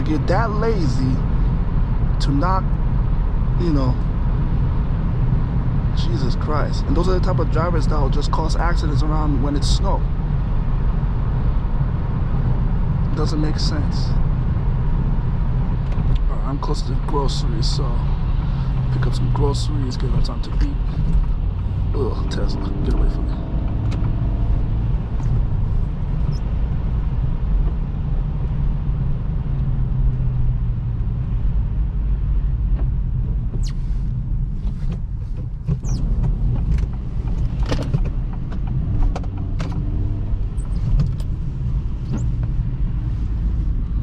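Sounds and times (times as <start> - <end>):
car engine: 0.0 - 44.0.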